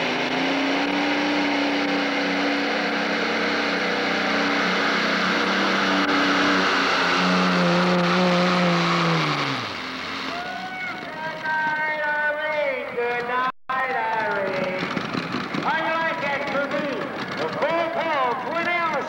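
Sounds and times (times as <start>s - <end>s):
tractor engines running flat out: 0.0s - 19.0s.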